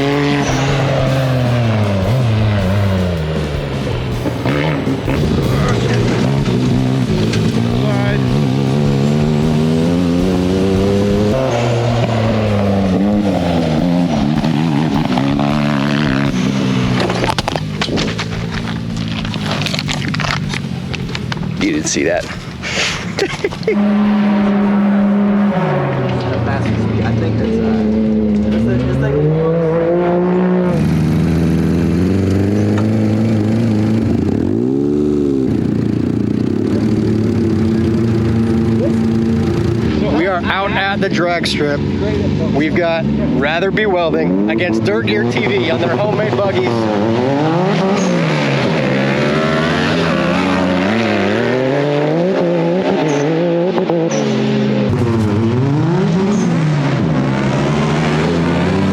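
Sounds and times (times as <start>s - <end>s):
buggy engine accelerating: 0.0s - 58.9s.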